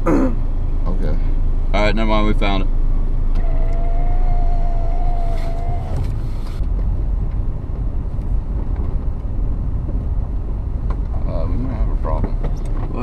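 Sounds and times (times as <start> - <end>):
car engine rumble from inside: 0.0 - 13.0.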